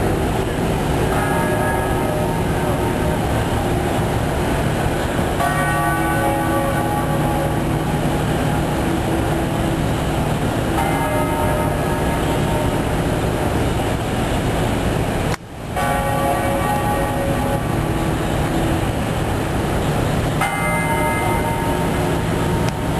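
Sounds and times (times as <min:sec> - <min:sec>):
street noise rumble: 0:00.0 - 0:22.9
large bell tolling: 0:00.2 - 0:22.9.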